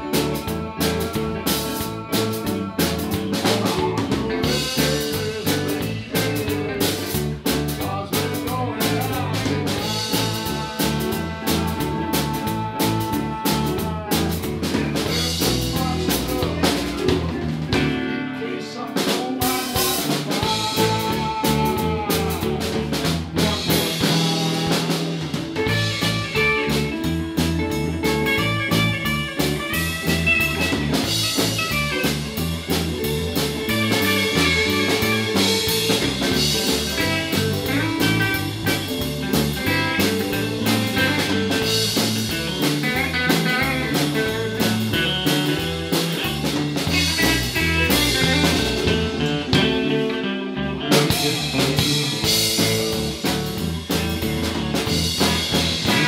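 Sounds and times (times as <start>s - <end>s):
bending electric guitar lead: 0.0s - 56.0s
live blues band playing: 0.0s - 56.0s.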